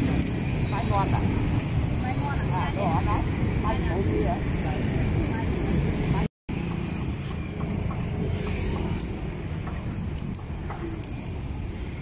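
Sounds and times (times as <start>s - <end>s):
motorbikes and cars passing: 0.0s - 12.0s
street traffic rumble: 0.0s - 12.0s.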